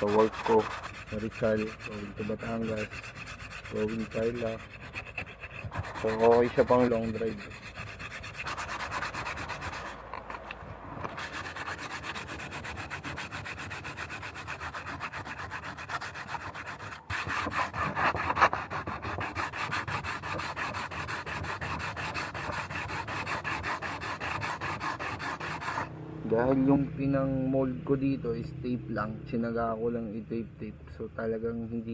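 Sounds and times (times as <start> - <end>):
sandpaper rubbing: 0.0 - 25.9.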